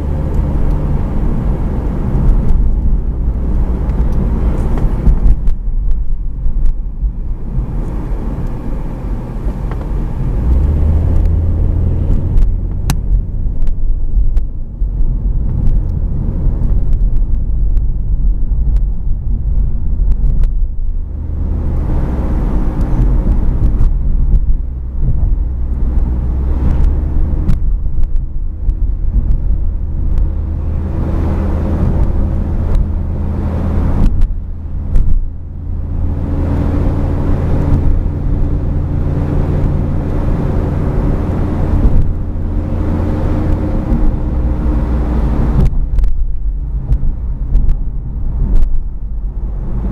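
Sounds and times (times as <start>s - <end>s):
car engine with droning bearing: 0.0s - 49.9s.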